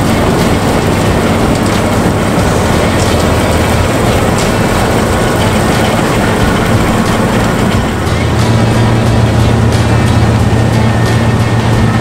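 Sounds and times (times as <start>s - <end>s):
diesel engine humming: 0.0s - 12.0s
threshing machinery noise: 0.0s - 12.0s.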